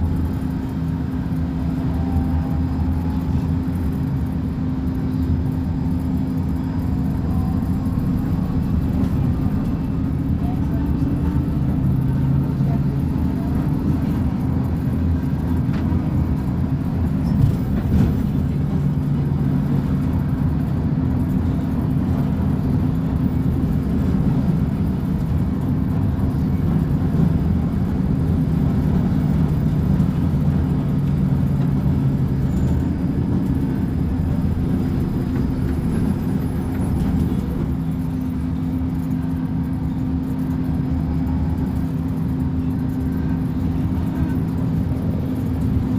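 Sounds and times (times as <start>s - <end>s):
diesel bus engine running: 0.0s - 45.9s.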